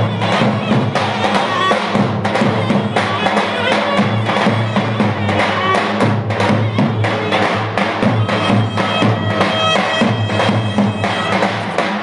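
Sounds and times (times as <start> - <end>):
drums beating steadily: 0.0 - 12.0.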